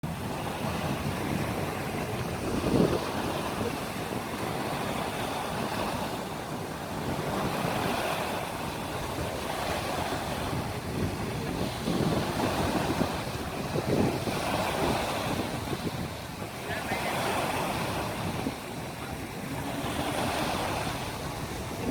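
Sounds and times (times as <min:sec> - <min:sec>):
small waves washing ashore: 0:00.0 - 0:21.9
wind gusting on the microphone: 0:00.0 - 0:21.9.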